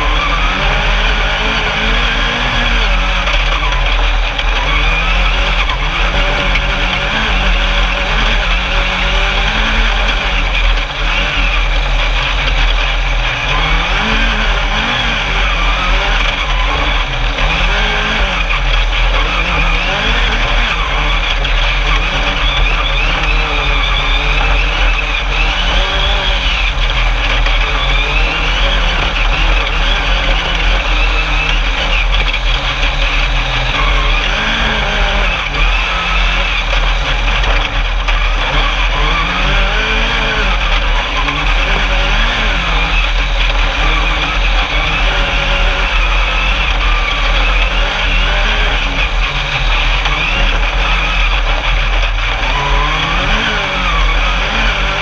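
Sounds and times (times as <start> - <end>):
buggy engine revving: 0.0 - 55.0
rush of driving noise: 0.0 - 55.0.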